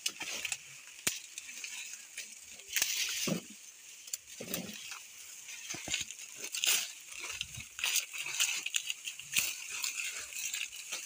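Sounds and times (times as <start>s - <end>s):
dry corn husks crackling: 0.0s - 11.0s.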